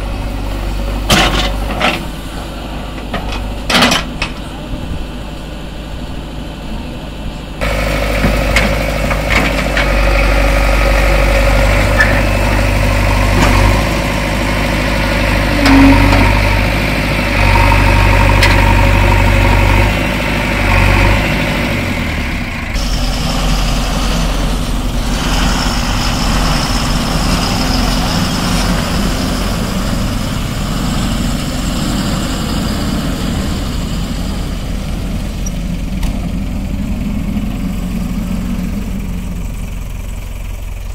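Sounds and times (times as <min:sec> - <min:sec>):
diesel engines humming: 0:00.0 - 0:40.9.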